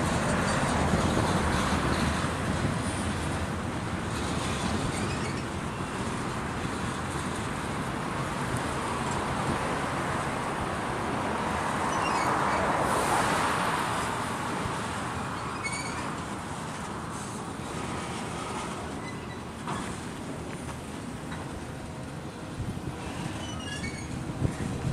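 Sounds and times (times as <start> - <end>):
freight train rolling past: 0.0 - 24.9.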